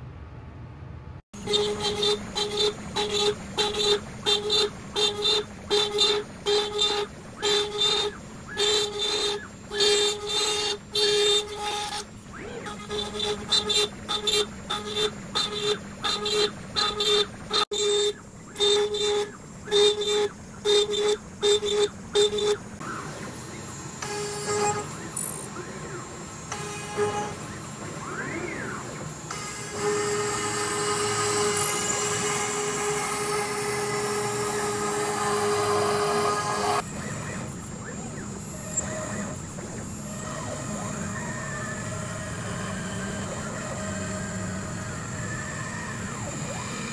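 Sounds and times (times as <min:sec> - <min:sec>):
router bit cutting wood: 0:01.4 - 0:46.9
spindle humming: 0:01.4 - 0:46.9
stepper motors whining: 0:01.4 - 0:46.9.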